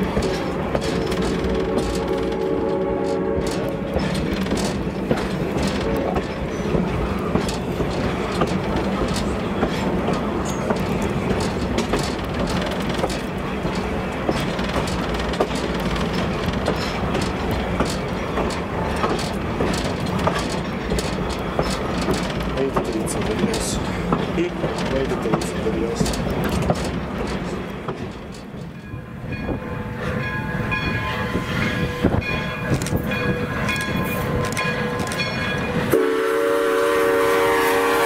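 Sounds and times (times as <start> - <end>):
wheels clicking over rail joints: 0.0 - 36.0
train rumbling on rails: 0.0 - 38.0.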